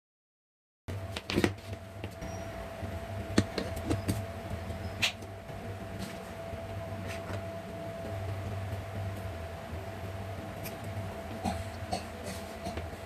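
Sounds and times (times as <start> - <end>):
steady low hum: 0.9 - 13.0.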